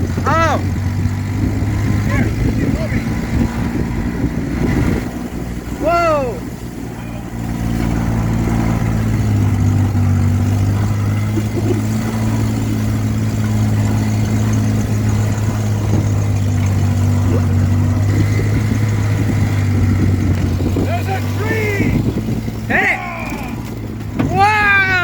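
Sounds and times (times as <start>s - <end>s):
truck engine running hard: 0.0s - 25.0s.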